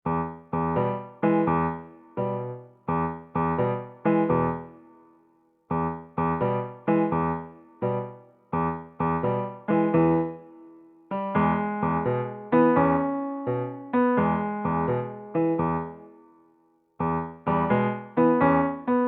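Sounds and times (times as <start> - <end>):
electric piano chords: 0.0 - 5.0, 5.7 - 16.4, 17.0 - 19.0.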